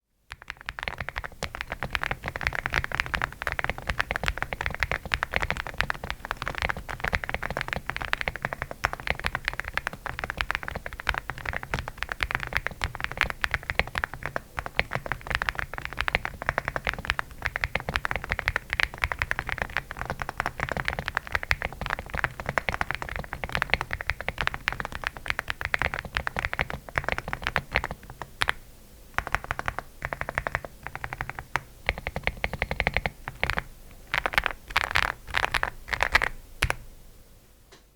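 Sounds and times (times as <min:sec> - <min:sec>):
mechanical keyboard typing: 0:00.3 - 0:28.6, 0:29.2 - 0:36.8.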